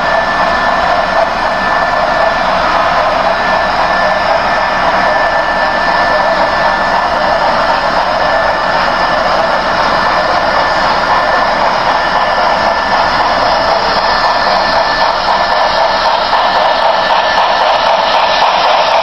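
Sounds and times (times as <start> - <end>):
thin high whine: 0.0 - 19.0.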